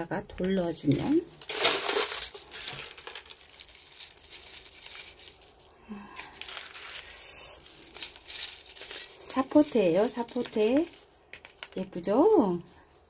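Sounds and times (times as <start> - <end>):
bubble wrap crinkling: 0.2 - 13.0.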